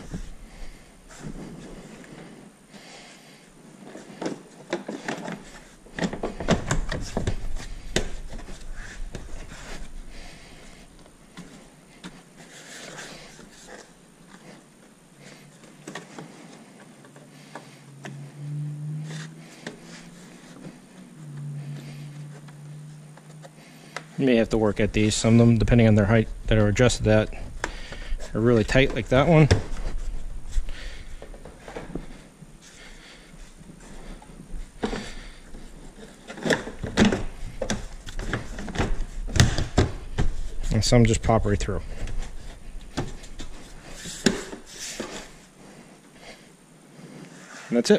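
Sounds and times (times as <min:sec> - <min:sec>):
low steady hum: 0:00.0 - 0:47.7
rubbing and handling noise: 0:00.0 - 0:47.9.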